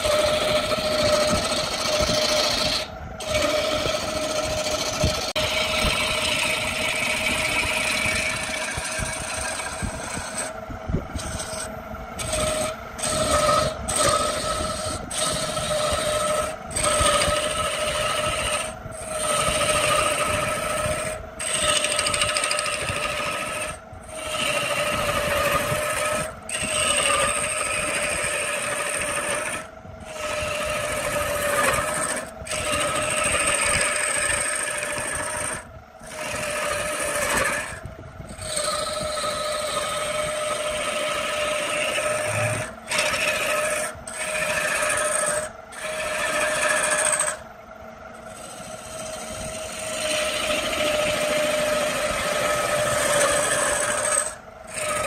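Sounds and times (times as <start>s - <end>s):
turning tool scraping wood: 0.0s - 47.4s, 48.1s - 55.0s
wood lathe whining: 0.0s - 55.0s.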